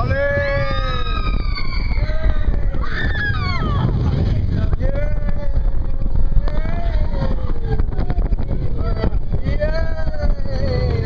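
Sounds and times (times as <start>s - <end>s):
roller coaster rolling rumble: 0.0s - 11.0s
wind on microphone: 0.0s - 11.0s.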